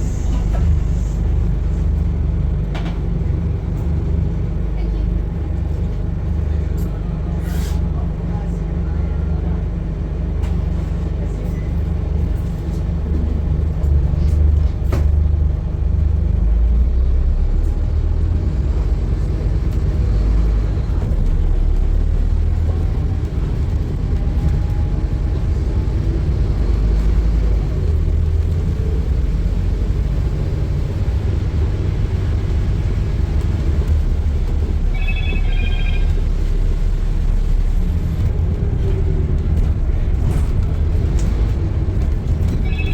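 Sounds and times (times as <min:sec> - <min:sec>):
bus diesel engine droning: 0:00.0 - 0:42.9.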